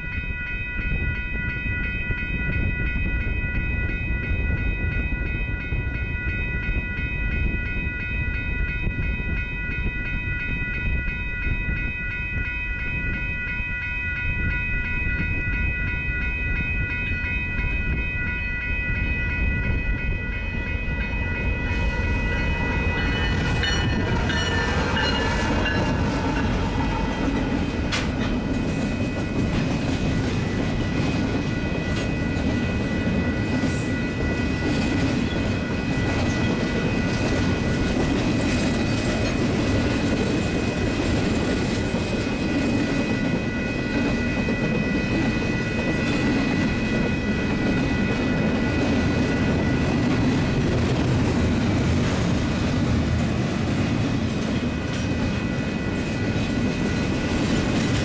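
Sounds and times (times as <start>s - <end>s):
crossing bell ringing: 0.0s - 58.0s
freight train wheels rumbling: 0.0s - 58.0s.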